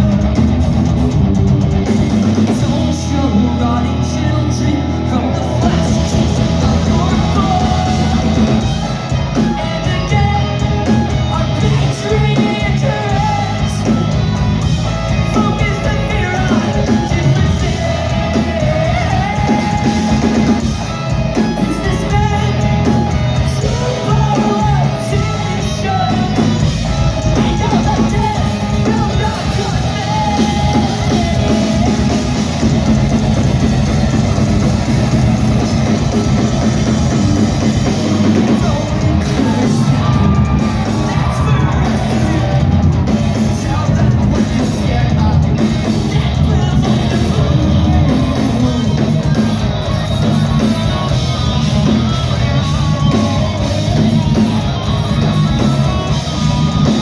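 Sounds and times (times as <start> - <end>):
live rock band playing: 0.0 - 57.0
sung lead vocal: 0.0 - 57.0.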